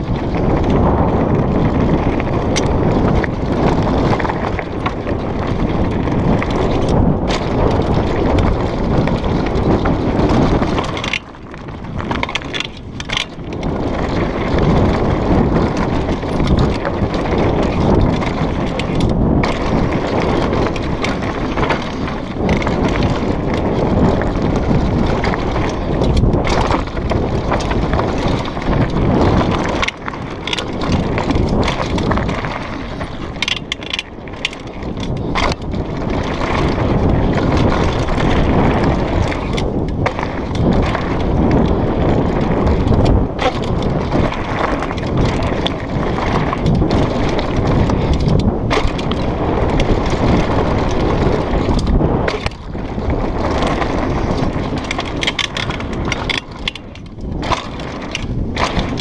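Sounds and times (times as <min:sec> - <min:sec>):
bike rattling over rocks: 0:00.0 - 0:59.0
bike tyres rumbling on gravel: 0:00.0 - 0:59.0.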